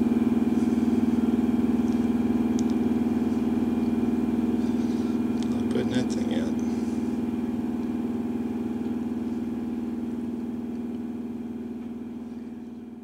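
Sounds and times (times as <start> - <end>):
fire engine engine running: 0.0 - 13.0.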